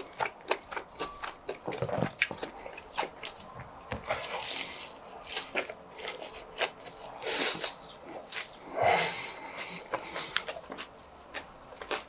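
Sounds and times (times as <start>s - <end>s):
close chewing crunches: 0.0s - 12.0s.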